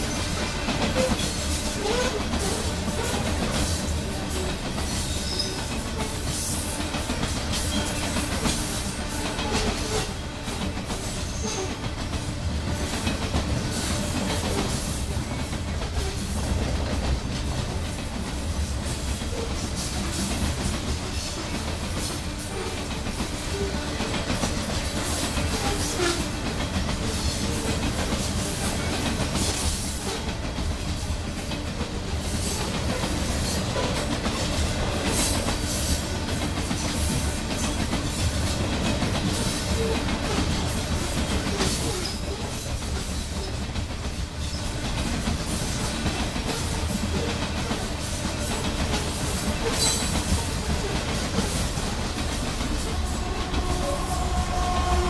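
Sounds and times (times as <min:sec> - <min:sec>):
train wheels rumbling on rails: 0:00.0 - 0:55.0
wheels clacking over rail joints: 0:00.0 - 0:55.0.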